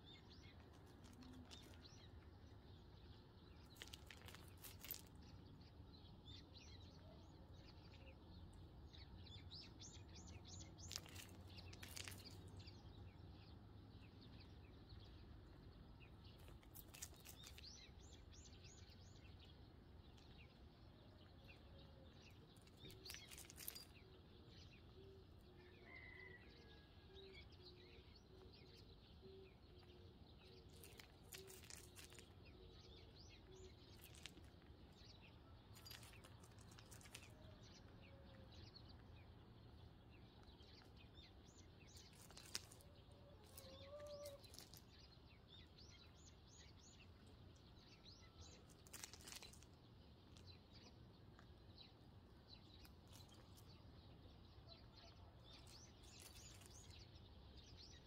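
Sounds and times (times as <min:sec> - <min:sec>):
hens pecking on gravel: 0:00.0 - 0:06.4, 0:09.3 - 0:25.9, 0:27.3 - 0:58.0
sparrows chirping: 0:00.0 - 0:58.0.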